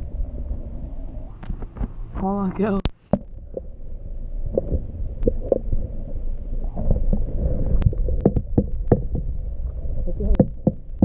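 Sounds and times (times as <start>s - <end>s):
muffled underwater rumbling: 0.0s - 11.0s.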